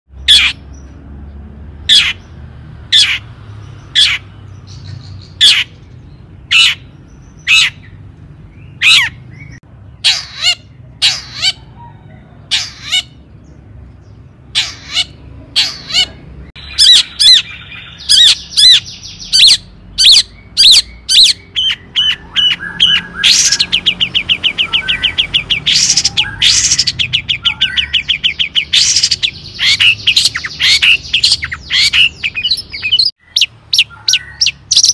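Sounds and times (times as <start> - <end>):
bird singing harsh calls: 0.1 - 34.9.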